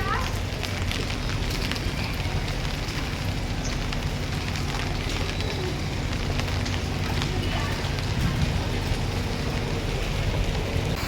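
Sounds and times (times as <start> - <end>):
heavy rain pouring: 0.0 - 11.0
low rumble: 0.0 - 11.0.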